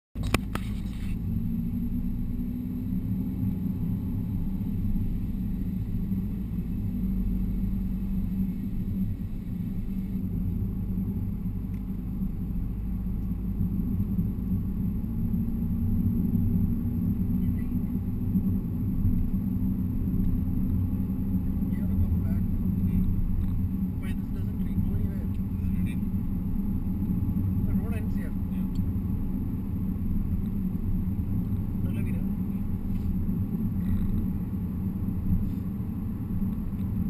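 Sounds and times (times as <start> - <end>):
car cruising interior rumble: 0.2 - 37.0.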